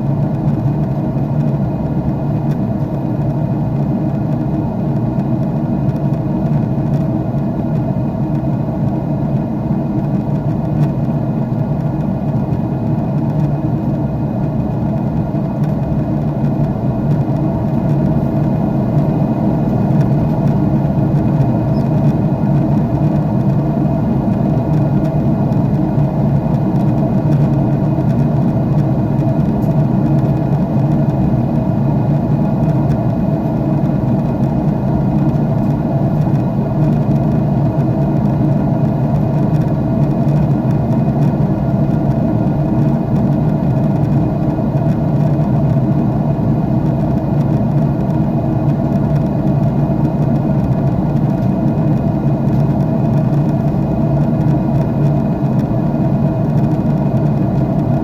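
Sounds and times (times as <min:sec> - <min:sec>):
faint steady hums: 0:00.0 - 0:58.0
jet engine rumble in cabin: 0:00.0 - 0:58.0.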